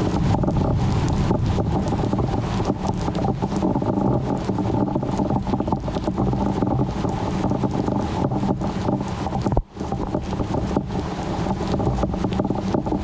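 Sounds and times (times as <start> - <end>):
low hum: 0.0 - 13.0
wind rushing on microphone: 0.0 - 13.0.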